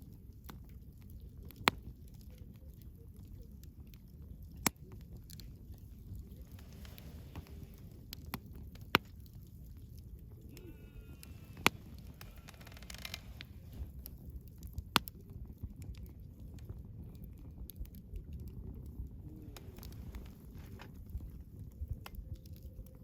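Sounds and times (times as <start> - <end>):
campfire rumbling and crackling: 0.0 - 23.0.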